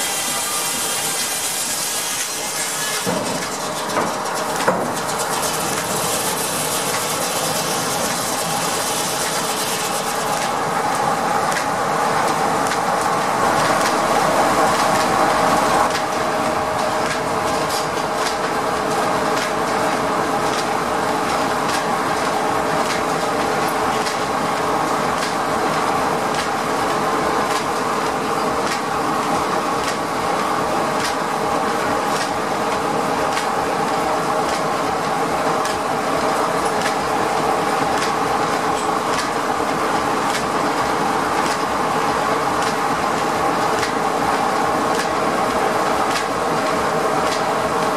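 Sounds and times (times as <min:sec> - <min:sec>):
steam sawmill machinery running: 0:00.0 - 0:47.9.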